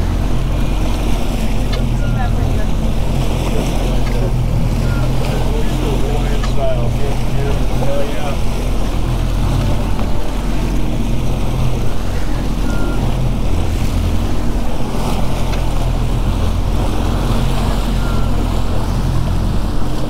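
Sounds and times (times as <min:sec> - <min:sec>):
churning wake water: 0:00.0 - 0:20.0
outboard motors running: 0:00.0 - 0:20.0.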